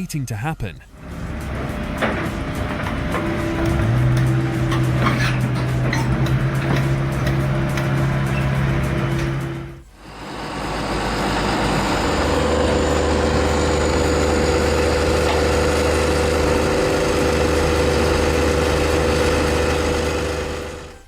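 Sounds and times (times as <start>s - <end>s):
heavy machine engine running: 0.9s - 21.0s.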